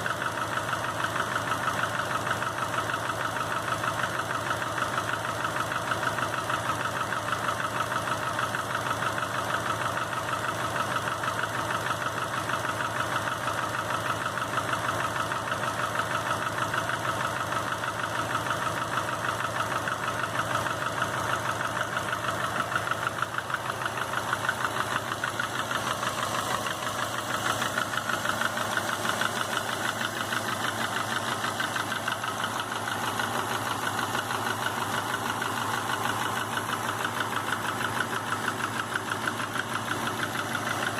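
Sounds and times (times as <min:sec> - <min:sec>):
engine idling with rapid knock: 0:00.0 - 0:40.9.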